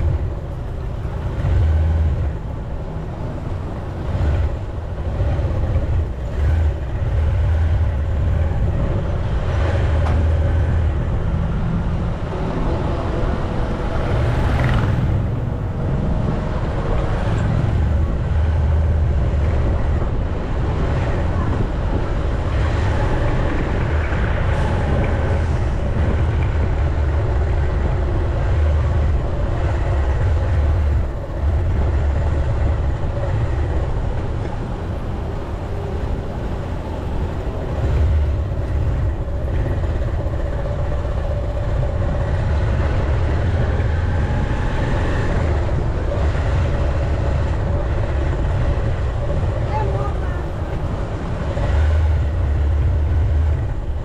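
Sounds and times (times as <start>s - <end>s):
heavy low rumble: 0.0s - 54.0s
road vehicle running noise: 0.0s - 54.0s.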